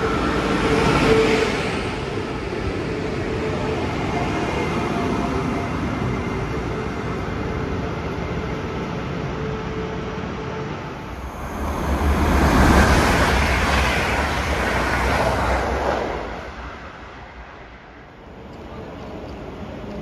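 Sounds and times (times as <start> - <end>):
electric train hum: 0.0 - 20.0
train rushing rail rumble: 0.0 - 20.0.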